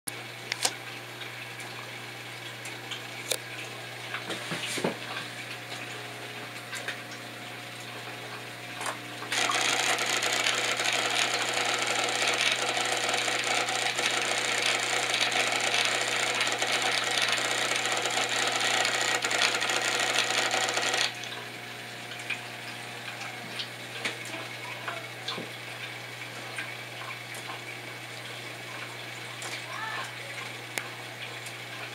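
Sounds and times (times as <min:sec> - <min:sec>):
aquarium pump humming: 0:00.1 - 0:31.9.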